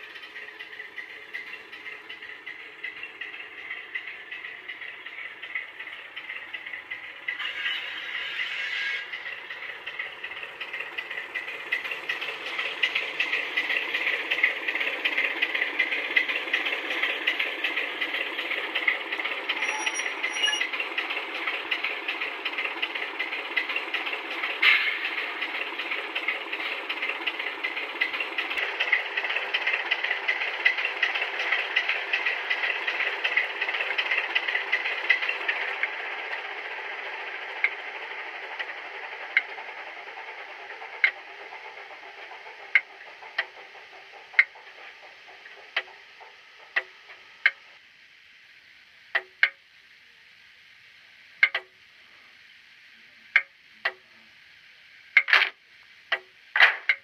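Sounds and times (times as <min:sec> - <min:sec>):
diesel engine sound from small speaker: 0:00.0 - 0:57.0.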